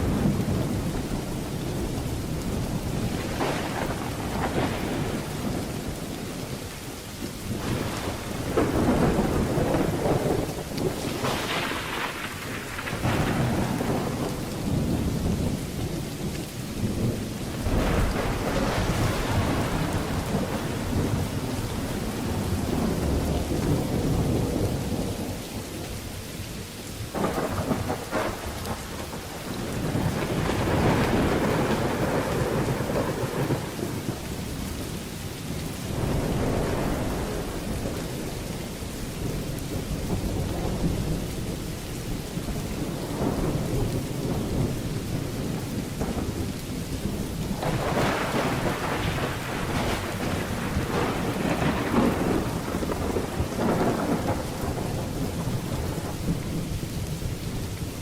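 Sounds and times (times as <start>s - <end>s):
sharp crack of thunder: 0.0s - 6.2s, 7.5s - 16.2s, 16.8s - 25.4s, 27.1s - 34.6s, 35.8s - 38.5s, 39.2s - 56.8s
thunder rumbling: 0.0s - 26.2s, 26.9s - 58.0s
steady rain falling: 0.0s - 58.0s.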